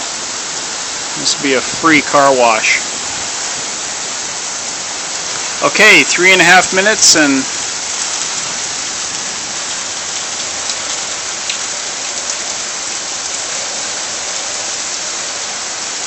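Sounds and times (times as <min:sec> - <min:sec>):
heavy rain splashing: 0:00.0 - 0:16.0.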